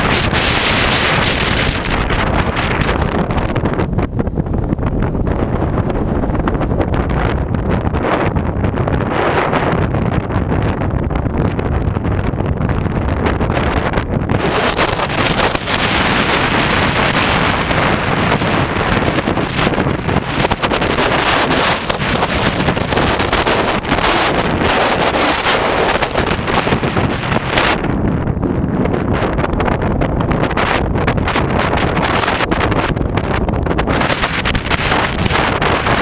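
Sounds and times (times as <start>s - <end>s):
strong wind blowing across microphone: 0.0s - 36.0s.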